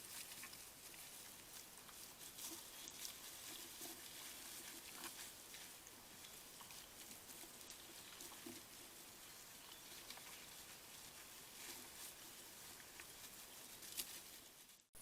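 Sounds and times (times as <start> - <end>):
rustling and crackling: 0.0 - 15.0.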